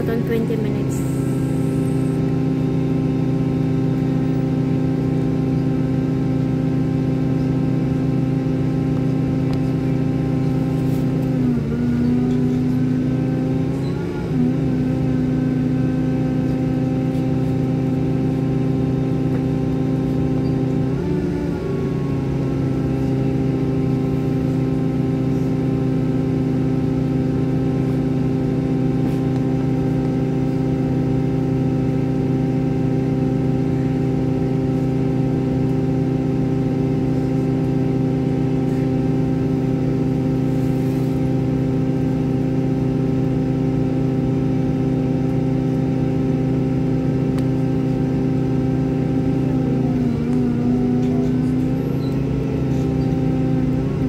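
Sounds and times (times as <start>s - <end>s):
bus engine idling: 0.0s - 54.0s.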